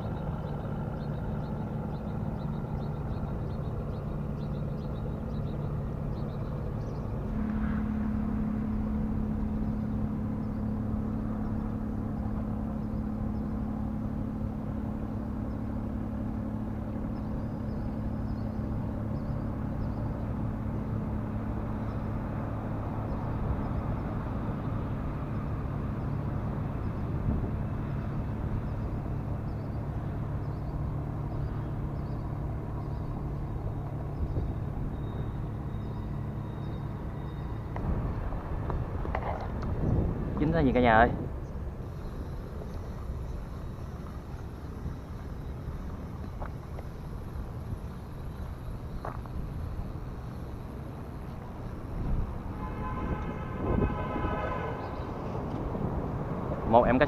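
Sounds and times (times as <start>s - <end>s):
constant rumble: 0.0s - 57.0s
low engine hum: 0.0s - 57.0s.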